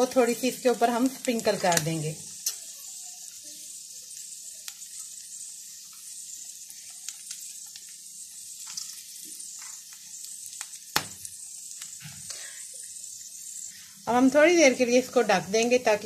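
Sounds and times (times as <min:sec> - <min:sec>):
egg sizzling in a frying pan: 0:00.0 - 0:16.0.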